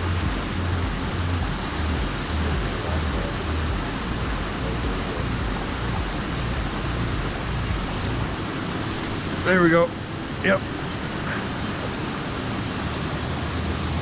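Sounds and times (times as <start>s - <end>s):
low rumble: 0.0s - 14.0s
water rushing through dam: 0.0s - 14.0s.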